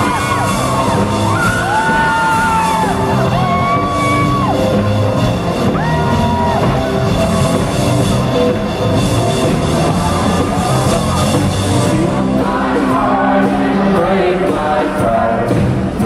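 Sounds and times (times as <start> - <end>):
folk rock band playing: 0.0 - 16.0.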